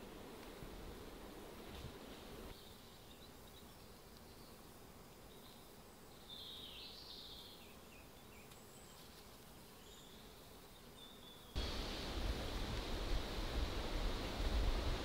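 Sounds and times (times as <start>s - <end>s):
faint even hiss: 0.0s - 15.0s.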